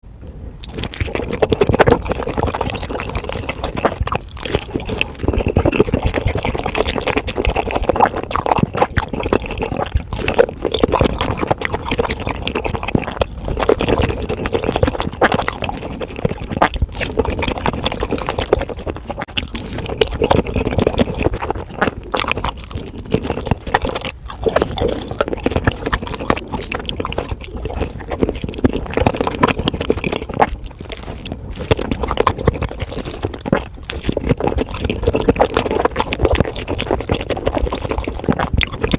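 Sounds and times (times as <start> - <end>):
chewing with wet mouth sounds: 0.2 - 38.9.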